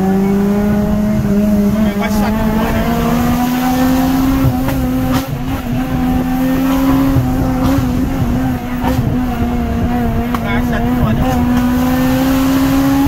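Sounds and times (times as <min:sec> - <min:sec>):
car engine at high revs: 0:00.0 - 0:13.0
road rumble: 0:00.0 - 0:13.0.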